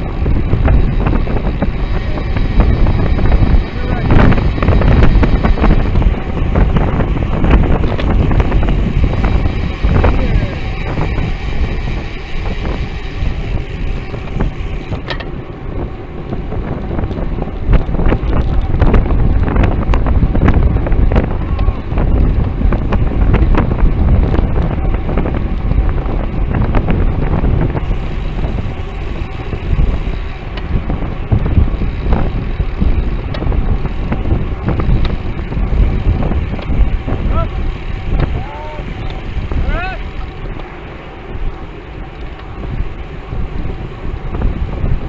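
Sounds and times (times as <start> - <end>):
low road rumble: 0.0 - 45.0
wind buffeting microphone: 0.0 - 45.0.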